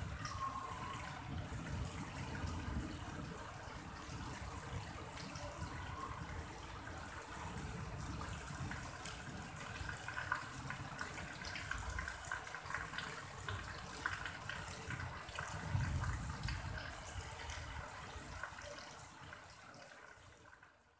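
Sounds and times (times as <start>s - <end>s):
rain on wet pavement: 0.0s - 20.9s.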